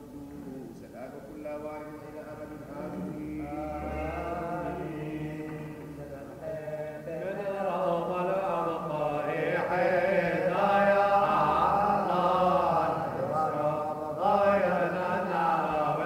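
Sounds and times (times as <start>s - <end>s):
voices singing liturgical chant: 0.0s - 16.0s.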